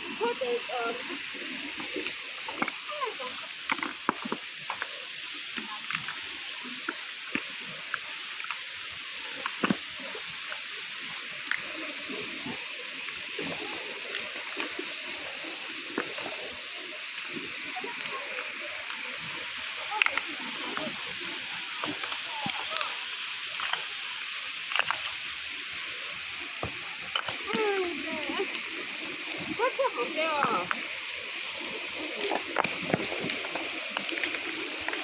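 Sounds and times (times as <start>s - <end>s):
flowing water rushing: 0.0s - 35.0s.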